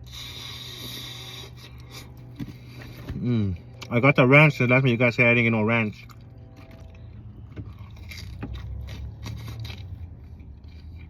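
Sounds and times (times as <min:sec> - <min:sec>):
person chewing pizza: 0:00.0 - 0:11.0.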